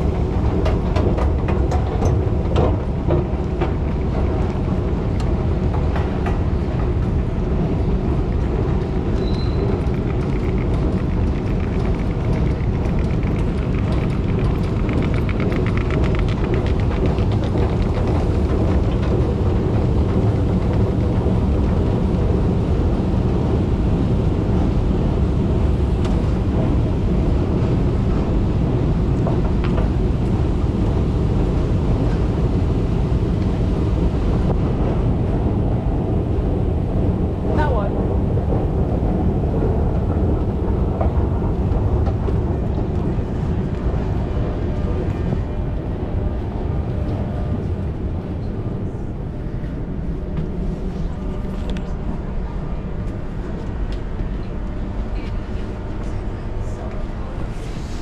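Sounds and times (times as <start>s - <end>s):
passenger train rumbling: 0.0s - 58.0s.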